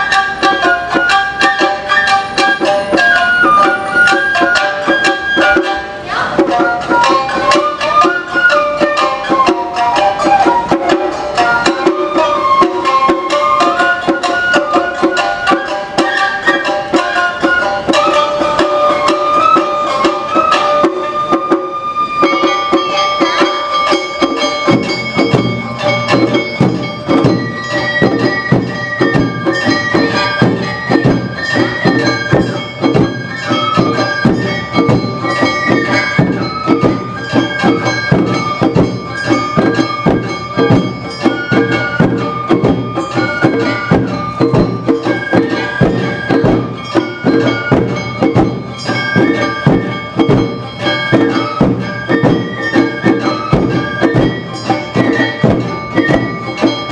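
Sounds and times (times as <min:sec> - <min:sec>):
drums and percussion beat: 0:00.0 - 0:56.9
shrill bamboo flutes: 0:00.0 - 0:56.9.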